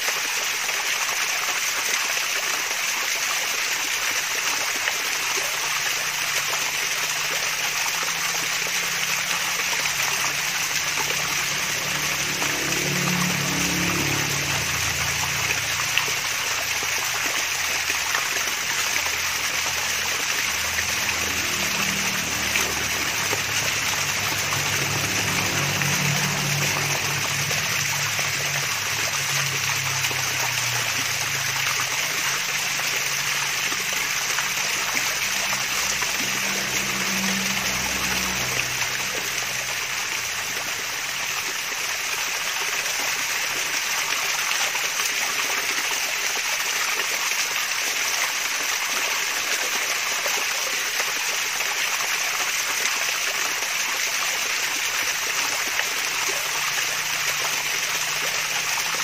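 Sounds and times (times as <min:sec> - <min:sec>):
water running over waterfall: 0:00.0 - 0:59.0.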